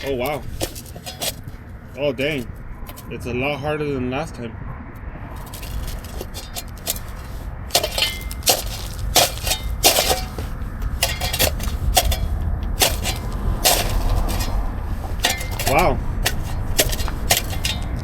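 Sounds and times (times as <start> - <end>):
shovel striking hard ground: 0.0 - 1.6, 2.2 - 3.1, 5.4 - 18.0.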